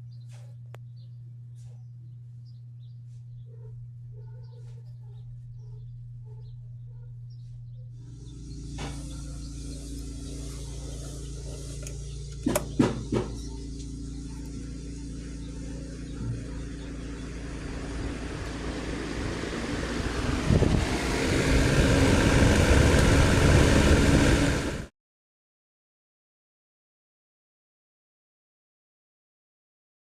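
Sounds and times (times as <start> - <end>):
engine hum: 0.0 - 24.9
radiator cooling fan whirring: 0.0 - 24.9.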